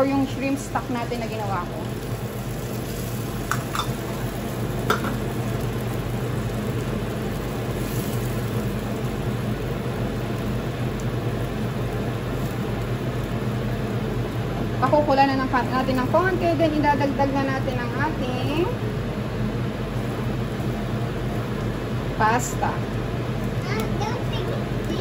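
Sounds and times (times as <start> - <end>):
steady low hum: 0.0 - 25.0
stock sizzling in a frying pan: 0.0 - 25.0.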